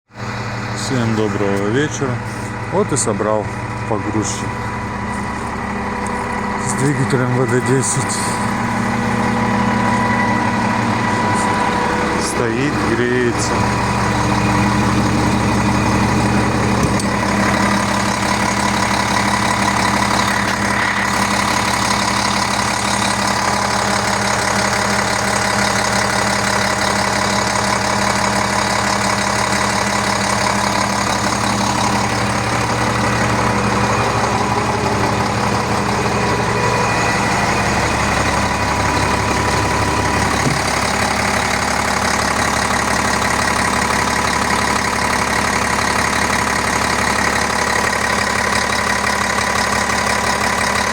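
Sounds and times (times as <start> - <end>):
forklift engine idling: 0.1 - 50.9.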